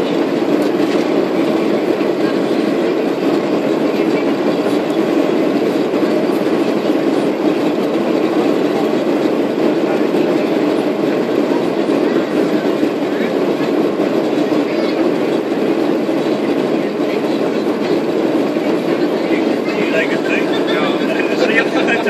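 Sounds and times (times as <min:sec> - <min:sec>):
airliner cabin engine noise: 0:00.0 - 0:22.0.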